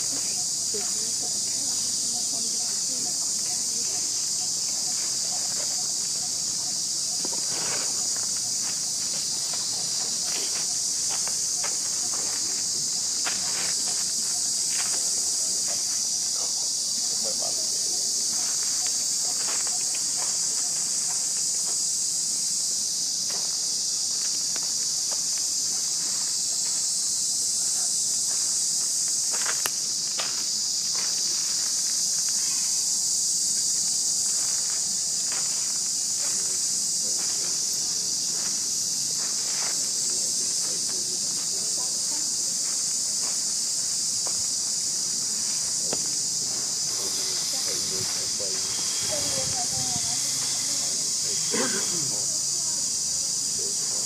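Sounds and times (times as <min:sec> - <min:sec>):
insects calling: 0:00.0 - 0:54.0.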